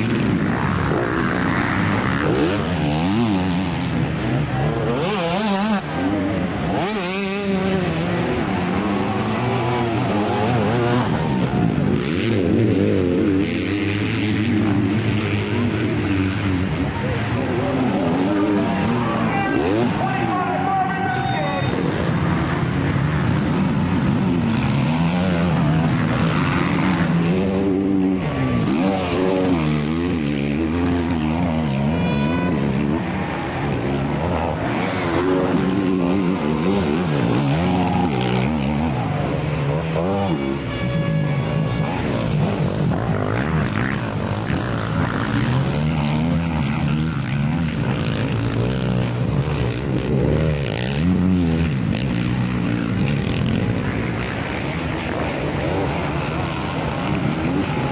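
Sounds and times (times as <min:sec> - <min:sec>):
motorcycle engines revving: 0:00.0 - 0:57.9.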